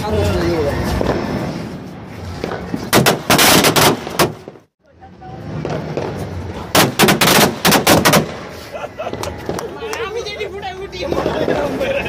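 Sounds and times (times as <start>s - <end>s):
firecrackers cracking: 0.7s - 4.7s, 5.4s - 12.0s.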